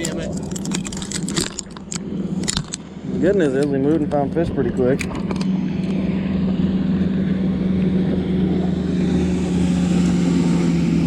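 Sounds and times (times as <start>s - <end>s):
boat motor humming: 0.0s - 11.0s
wind and water rushing: 0.0s - 11.0s.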